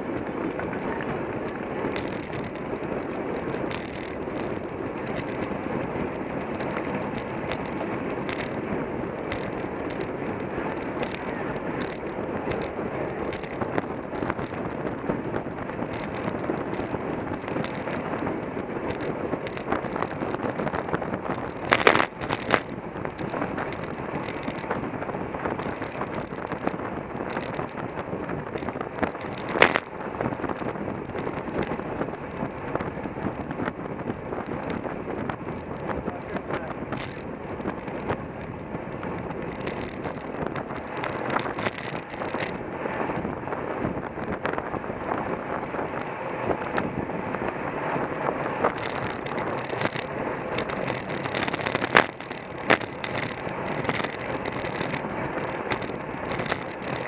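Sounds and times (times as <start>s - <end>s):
bicycle clatter: 0.0s - 57.0s
bicycle tyre and drivetrain noise: 0.0s - 57.0s
wind on microphone: 0.0s - 57.0s.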